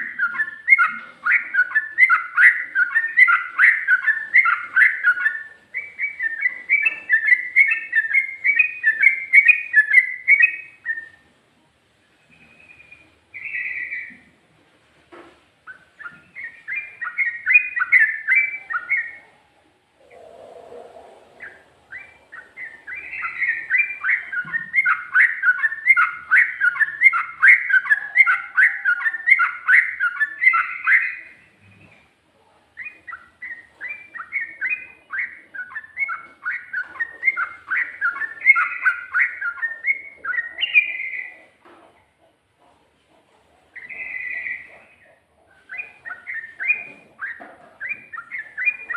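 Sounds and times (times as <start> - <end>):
bird singing whistled notes: 0.0 - 11.3, 12.3 - 14.2, 15.6 - 19.3, 20.0 - 31.9, 32.8 - 41.5, 43.8 - 48.9.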